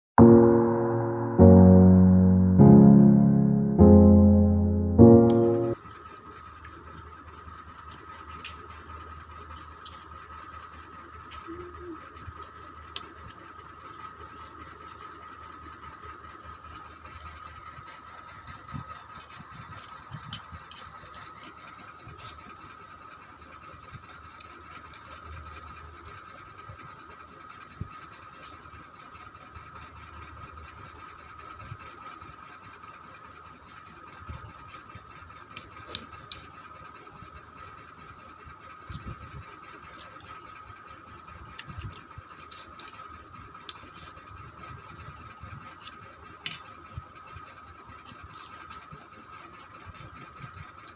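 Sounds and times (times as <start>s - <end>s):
steady mechanical hum: 0.2s - 50.9s.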